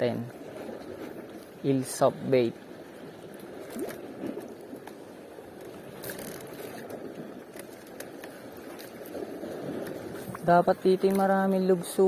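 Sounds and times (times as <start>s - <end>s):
water and wind rushing: 0.0s - 12.0s.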